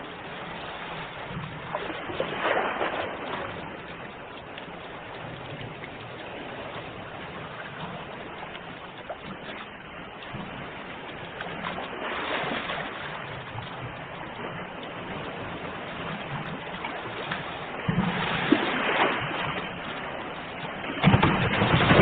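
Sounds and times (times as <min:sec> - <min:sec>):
sea waves washing in: 0:00.0 - 0:22.0.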